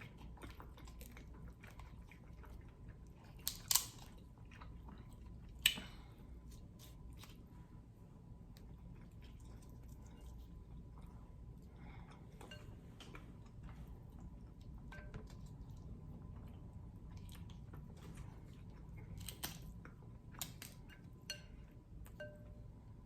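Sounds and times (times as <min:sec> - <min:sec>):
chewing and wet mouth sounds: 0:00.0 - 0:22.5.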